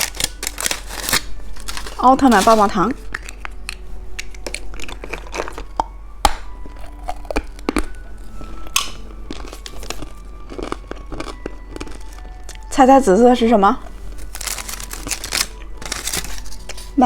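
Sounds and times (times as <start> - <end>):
wrapper crinkling: 0.0 - 6.0, 6.7 - 12.7, 13.8 - 17.0.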